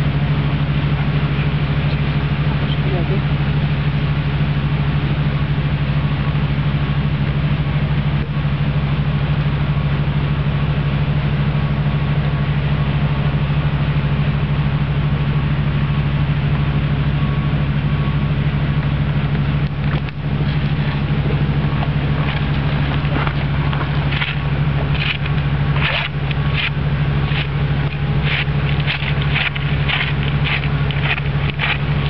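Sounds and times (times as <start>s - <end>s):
engine idling drone: 0.0s - 32.0s.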